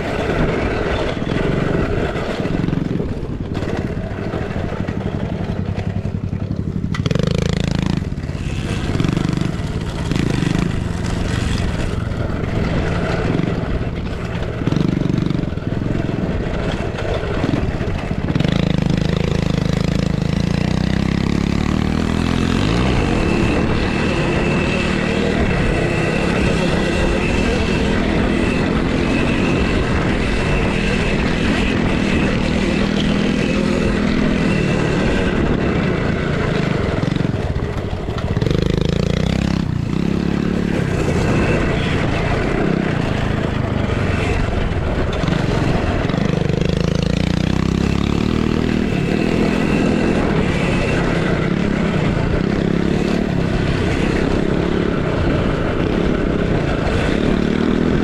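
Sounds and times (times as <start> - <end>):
minibike motors revving: 0.0 - 58.0.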